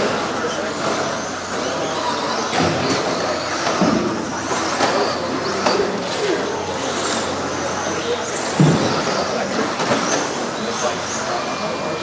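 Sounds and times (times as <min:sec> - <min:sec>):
rc truck motor whine: 0:00.0 - 0:12.0.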